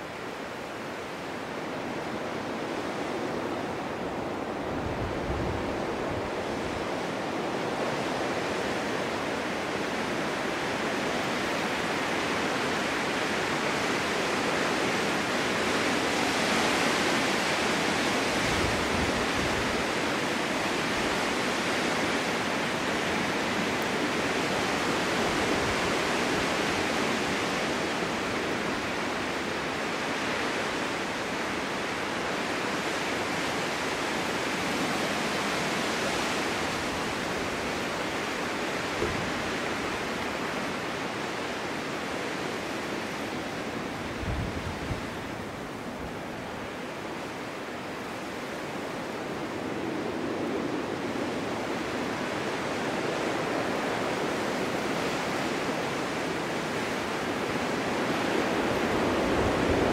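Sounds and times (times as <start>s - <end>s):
snowstorm wind hissing: 0.0s - 59.9s.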